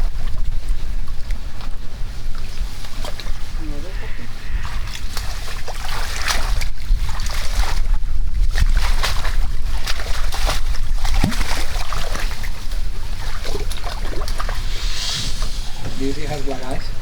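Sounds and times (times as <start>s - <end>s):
boat engine rumble: 0.0s - 17.0s
water rushing and splashing: 2.6s - 7.9s, 8.7s - 17.0s.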